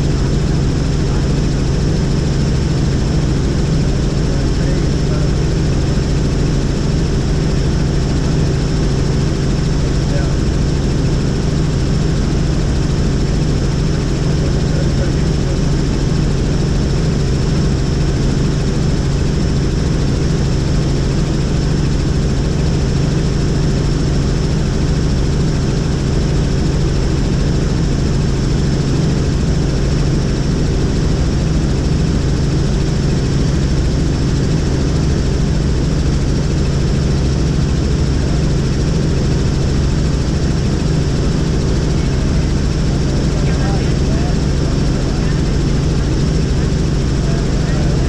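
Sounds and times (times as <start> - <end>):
helicopter rotor and engine: 0.0 - 48.0.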